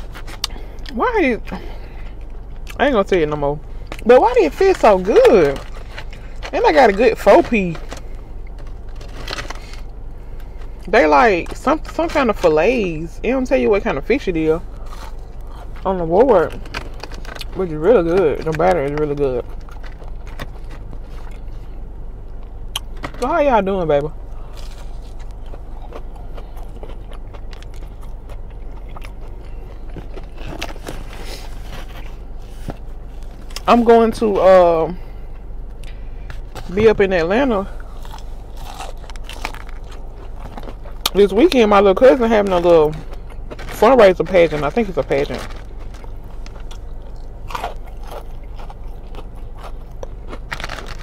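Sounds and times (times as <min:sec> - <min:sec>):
crisp batter crunching while chewing: 0:02.0 - 0:12.2, 0:14.6 - 0:23.0, 0:24.3 - 0:33.7, 0:37.6 - 0:51.0.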